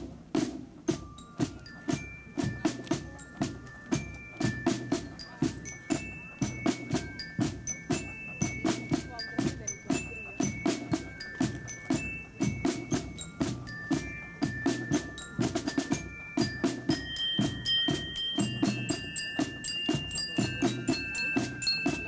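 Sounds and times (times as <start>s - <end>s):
snare drums march rhythm: 0.0s - 22.0s
high bell-like melody: 0.9s - 22.0s.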